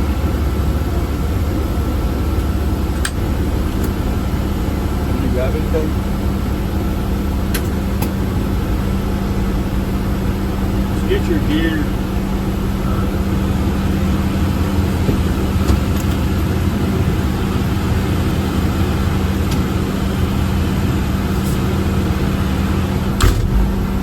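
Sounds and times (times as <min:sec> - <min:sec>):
fire engine motor running: 0:00.0 - 0:24.0.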